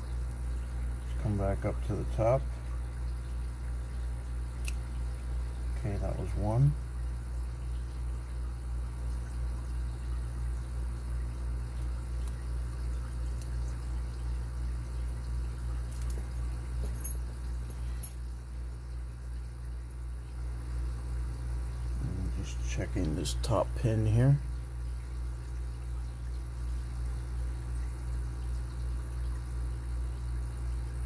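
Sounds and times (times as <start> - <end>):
low pulsing hum: 0.0 - 31.0.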